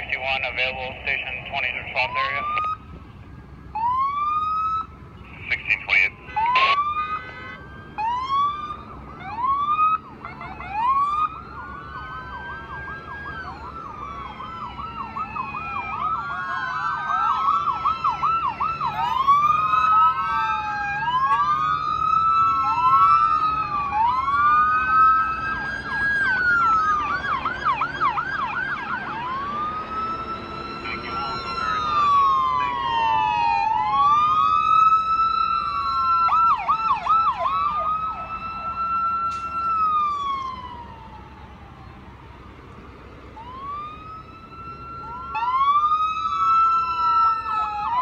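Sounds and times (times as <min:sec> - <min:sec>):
emergency vehicle sirens wailing: 0:00.0 - 0:48.0
sirens yelping: 0:00.0 - 0:48.0.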